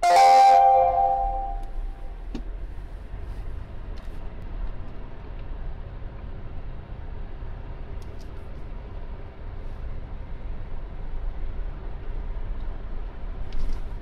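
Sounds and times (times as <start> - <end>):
car engine and tyre rumble: 1.0 - 14.0.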